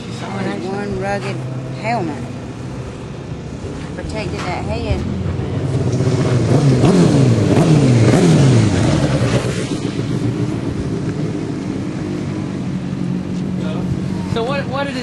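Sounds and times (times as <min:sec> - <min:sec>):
racing motorcycles passing: 0:00.0 - 0:15.0.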